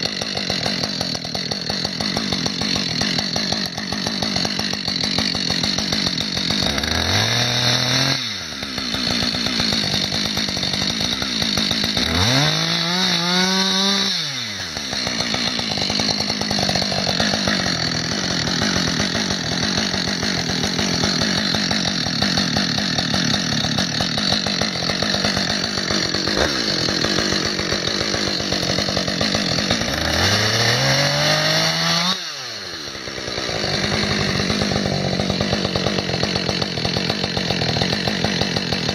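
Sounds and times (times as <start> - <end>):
chainsaw cutting tree trunk: 0.0 - 38.9.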